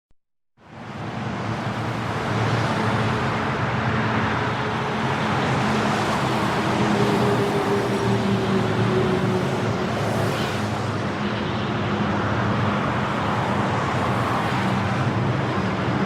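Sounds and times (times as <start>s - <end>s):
highway traffic on wet road: 0.6s - 16.0s.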